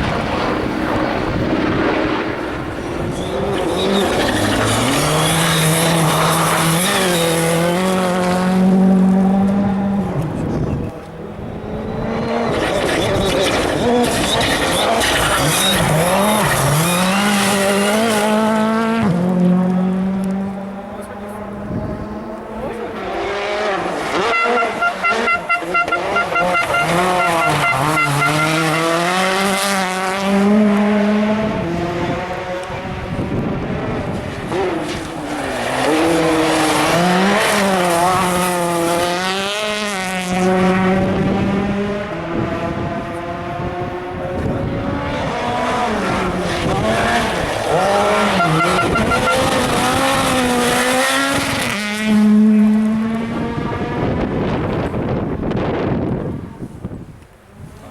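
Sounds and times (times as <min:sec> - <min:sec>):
rally car engine accelerating: 0:00.0 - 0:56.6.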